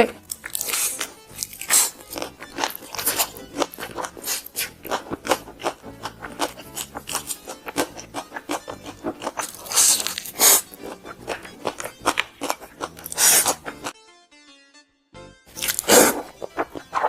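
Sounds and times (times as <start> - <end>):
soft background music: 0.0 - 17.0
crunching fried chicken skin: 0.2 - 13.9, 15.5 - 17.0.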